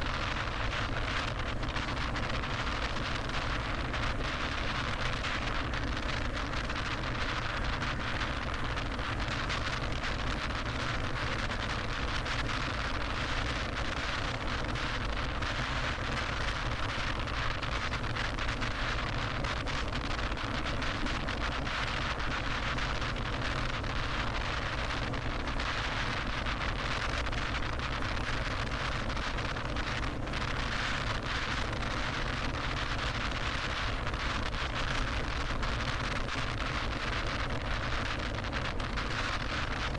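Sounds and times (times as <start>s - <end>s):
car tyre and wind noise: 0.0s - 39.9s.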